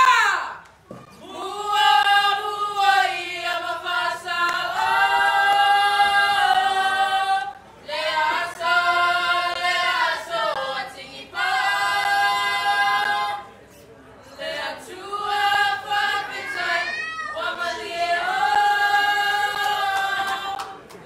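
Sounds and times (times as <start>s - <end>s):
women singing unaccompanied: 1.2s - 13.6s, 14.3s - 21.0s.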